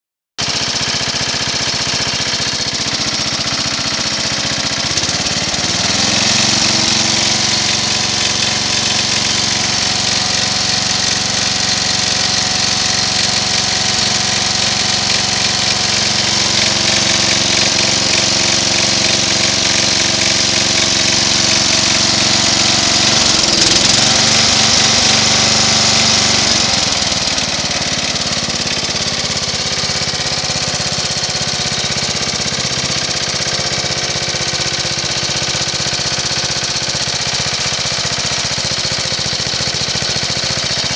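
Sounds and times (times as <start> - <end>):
riding tractor engine running: 0.4 - 40.9.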